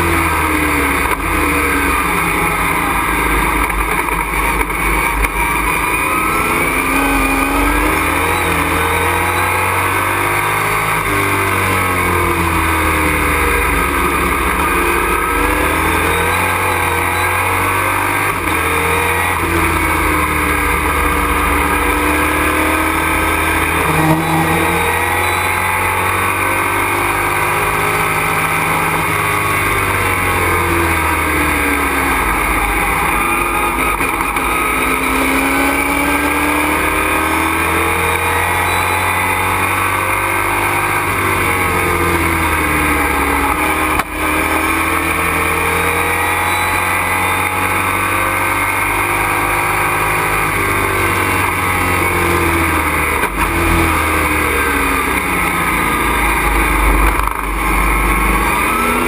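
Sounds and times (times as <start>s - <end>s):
race engine revving: 0.0s - 59.0s
road and drivetrain rumble: 0.0s - 59.0s.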